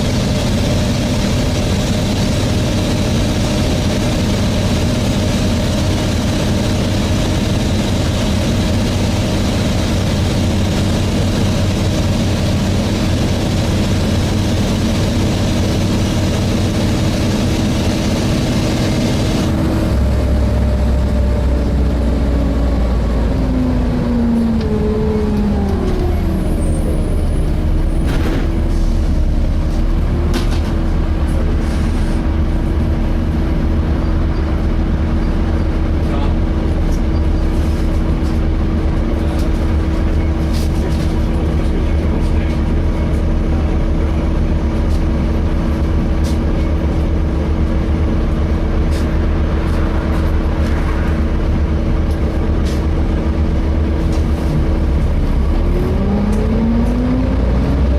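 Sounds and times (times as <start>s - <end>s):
bus engine drone: 0.0s - 57.9s.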